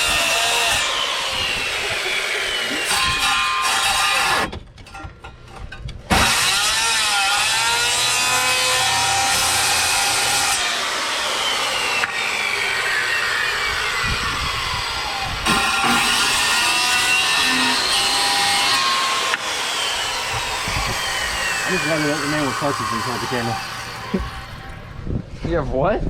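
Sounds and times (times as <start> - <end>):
power saw cutting wood: 0.0 - 4.5, 6.1 - 25.1.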